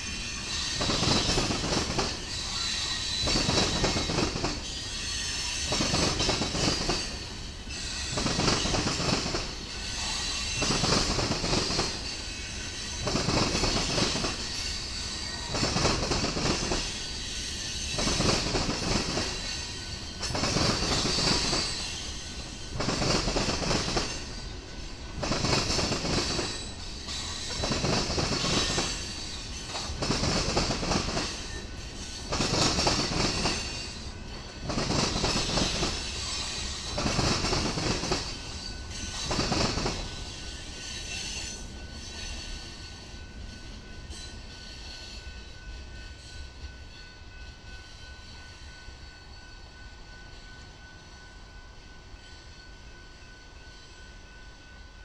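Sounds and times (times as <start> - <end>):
freight train wheels clattering: 0.0 - 50.8
train wheels screeching: 0.0 - 55.0.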